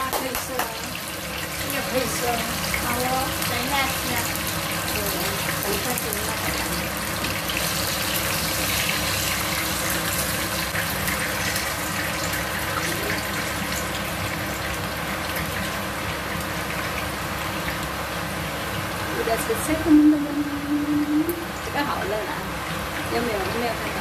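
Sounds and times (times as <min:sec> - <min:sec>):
fish sizzling in hot oil: 0:00.0 - 0:19.7.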